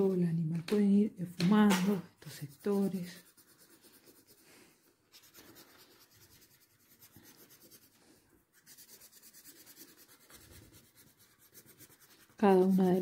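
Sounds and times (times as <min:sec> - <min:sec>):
drawing tool rubbing on paper: 0:02.2 - 0:13.0.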